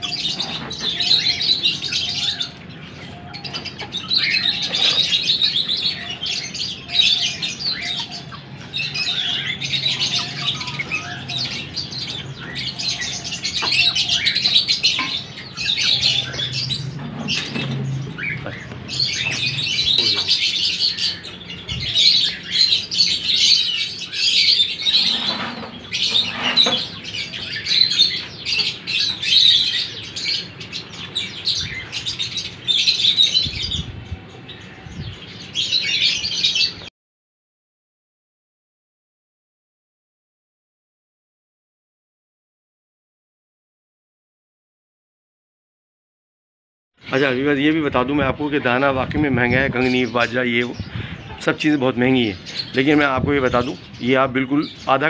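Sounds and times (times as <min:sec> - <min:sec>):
flock of small birds chirping: 0:00.0 - 0:36.9, 0:47.0 - 0:55.0.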